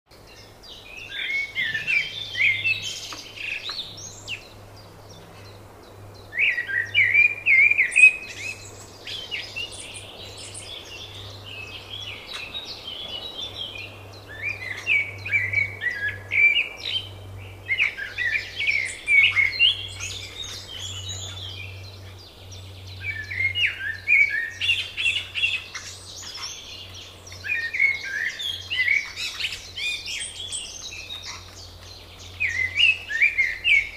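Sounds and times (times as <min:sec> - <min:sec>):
songbirds singing: 0:00.1 - 0:33.9.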